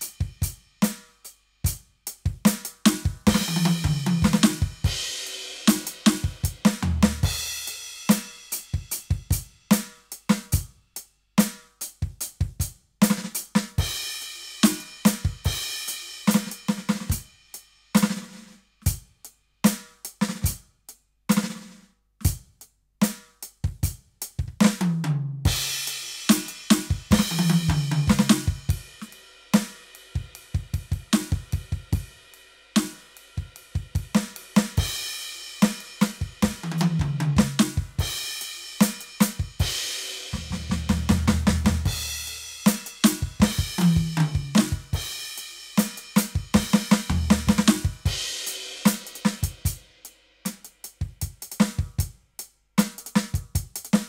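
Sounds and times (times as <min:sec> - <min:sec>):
electronic drum kit groove: 0:00.0 - 0:54.0.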